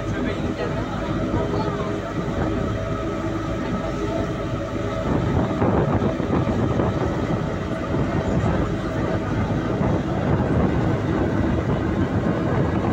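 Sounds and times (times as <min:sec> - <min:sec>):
boat engine and water noise: 0:00.0 - 0:12.9.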